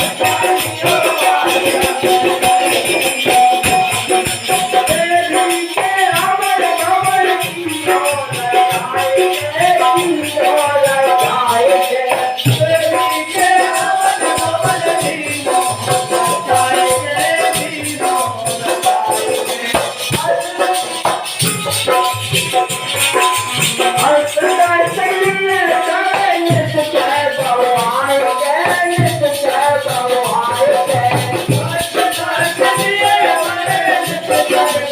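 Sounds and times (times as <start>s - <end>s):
devotional singing: 0.0s - 22.2s, 23.6s - 34.9s
rattling hand percussion: 0.0s - 34.9s.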